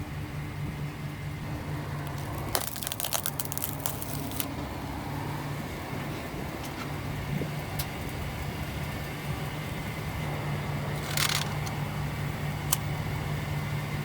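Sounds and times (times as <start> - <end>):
engine-like hum: 0.0 - 14.0.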